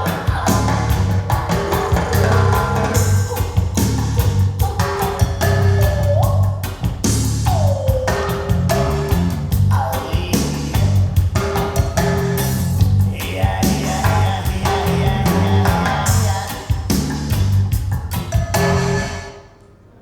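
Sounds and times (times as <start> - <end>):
music with deep bass line: 0.0 - 19.2.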